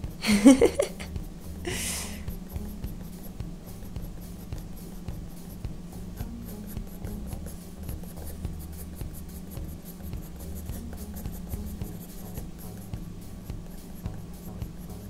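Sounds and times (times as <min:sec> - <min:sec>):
low steady hum: 0:00.0 - 0:15.0
pencil scratching on paper: 0:01.7 - 0:15.0.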